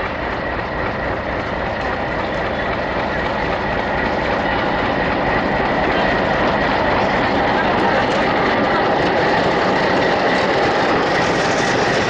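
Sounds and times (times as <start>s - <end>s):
diesel locomotive running: 0.0s - 12.0s
steady high whine: 0.0s - 12.0s.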